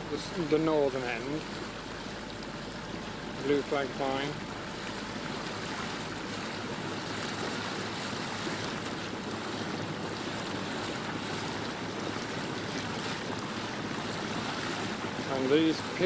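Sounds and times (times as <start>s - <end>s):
rush of wind and water: 0.0s - 16.0s.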